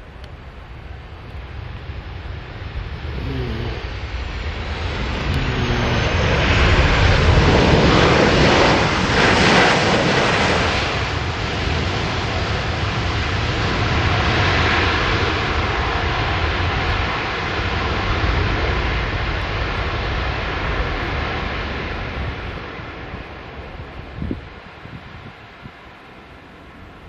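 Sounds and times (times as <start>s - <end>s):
jet engine roar: 0.0s - 27.0s.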